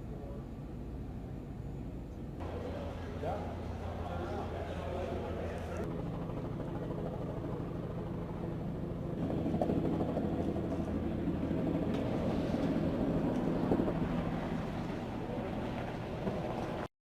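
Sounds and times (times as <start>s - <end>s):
engine drone: 0.0s - 16.9s.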